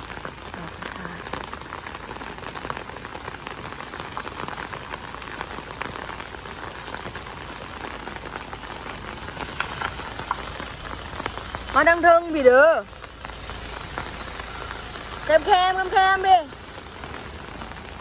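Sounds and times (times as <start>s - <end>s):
heavy rain on water and road: 0.0s - 18.0s.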